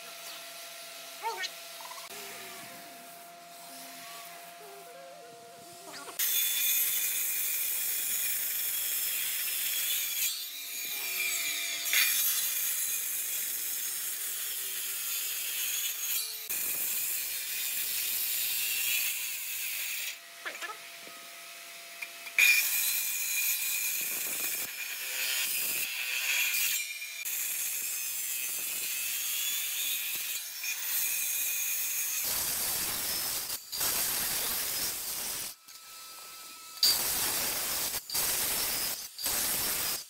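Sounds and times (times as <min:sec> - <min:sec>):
circular saw cutting wood: 0:00.0 - 0:40.0.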